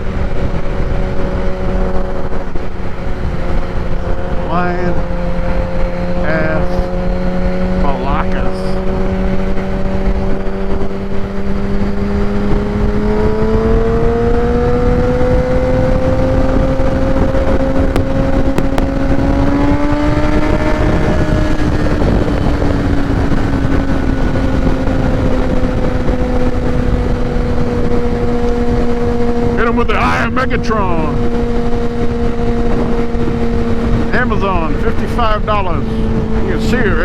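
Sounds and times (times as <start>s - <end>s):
motorcycle engine cruising: 0.0s - 37.0s
wind noise on microphone: 0.0s - 37.0s.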